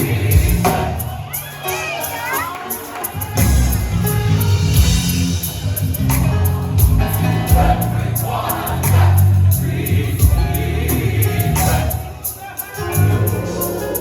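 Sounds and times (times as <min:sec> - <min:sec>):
gospel choir singing with band: 0:00.0 - 0:14.0.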